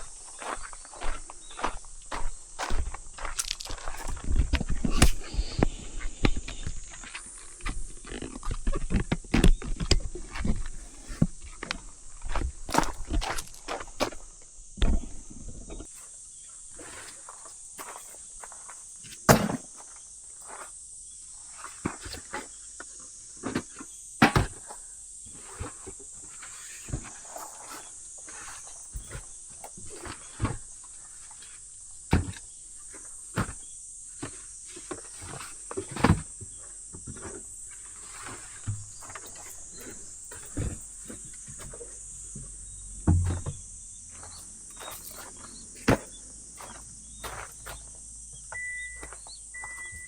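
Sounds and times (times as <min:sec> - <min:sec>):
high-pitched insect-like hiss: 0:00.0 - 0:50.0.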